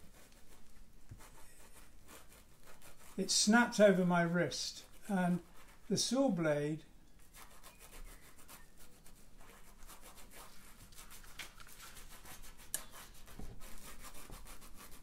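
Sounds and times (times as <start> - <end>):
paintbrush scratching on canvas: 0.0 - 6.2, 7.2 - 15.0.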